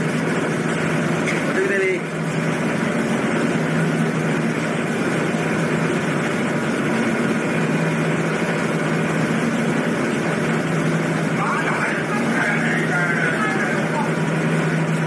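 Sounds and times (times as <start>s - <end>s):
ship engine hum: 0.0s - 15.0s
wake water rushing: 0.0s - 15.0s.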